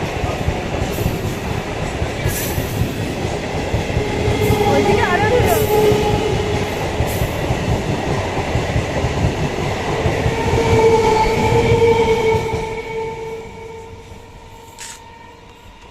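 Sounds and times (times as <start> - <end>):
train wheels rumbling: 0.0 - 15.9.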